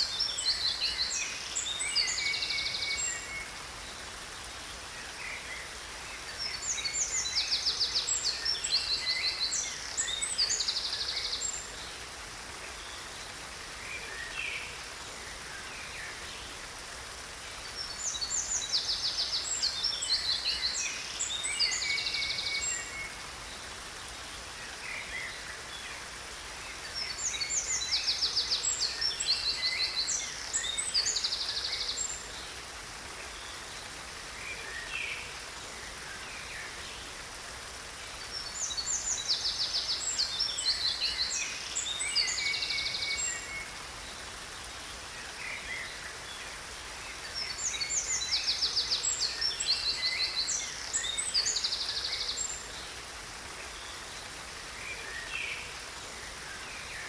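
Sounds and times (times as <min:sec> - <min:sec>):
falling water hiss: 0:00.0 - 0:57.0.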